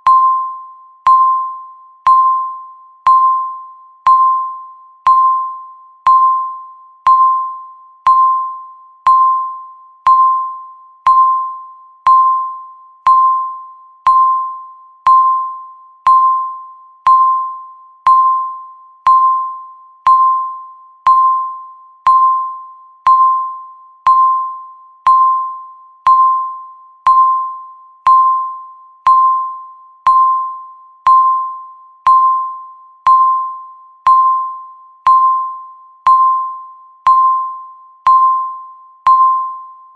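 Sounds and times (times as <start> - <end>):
bell-like timer beeps: 0.0 - 39.9.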